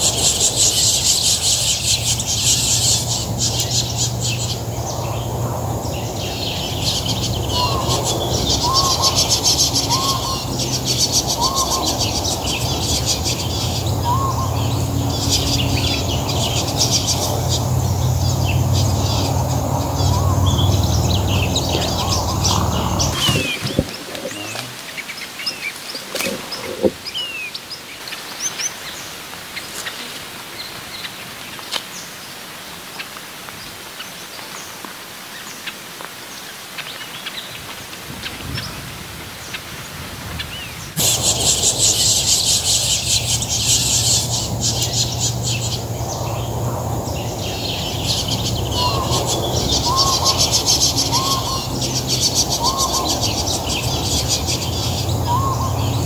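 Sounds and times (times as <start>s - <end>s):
birds chirping chorus: 0.0s - 56.0s.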